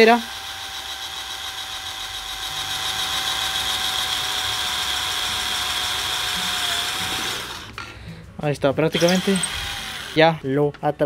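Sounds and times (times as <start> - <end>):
cordless drill drilling into wood: 0.0 - 7.8, 9.0 - 10.3.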